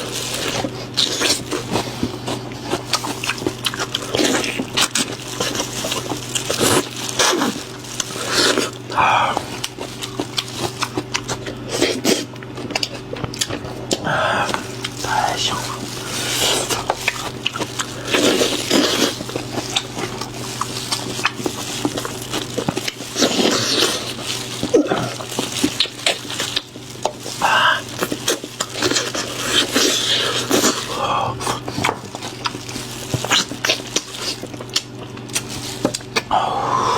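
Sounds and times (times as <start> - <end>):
wet chewing and mouth noises: 0.0 - 36.4
steady low hum: 0.0 - 36.9.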